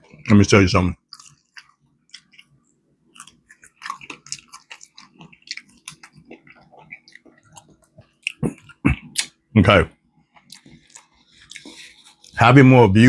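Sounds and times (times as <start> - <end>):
person chewing: 1.0 - 9.4, 10.2 - 12.4.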